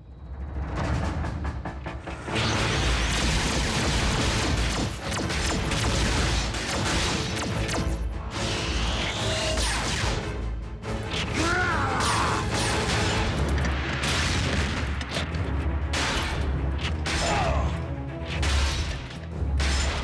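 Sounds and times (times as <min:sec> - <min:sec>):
cartoon action music: 0:00.7 - 0:20.0.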